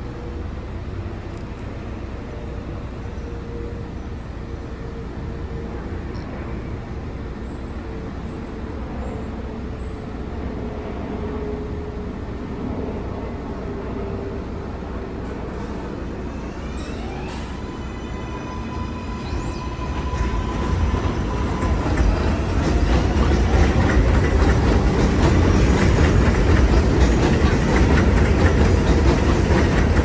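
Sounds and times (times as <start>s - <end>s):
subway train humming: 0.0s - 30.0s.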